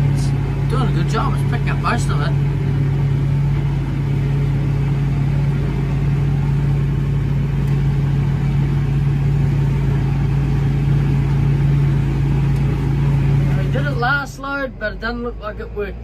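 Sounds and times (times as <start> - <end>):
tractor engine and chopper drone: 0.0 - 16.0.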